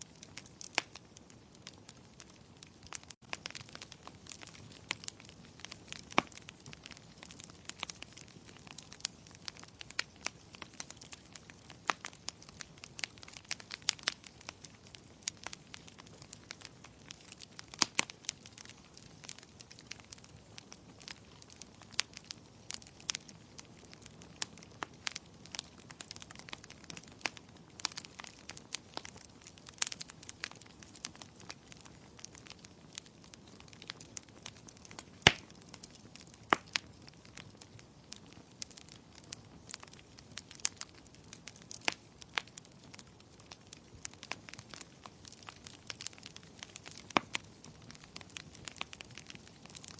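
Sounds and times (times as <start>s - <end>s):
fire crackling and popping: 0.0s - 49.9s
fire soft hiss: 0.0s - 49.9s.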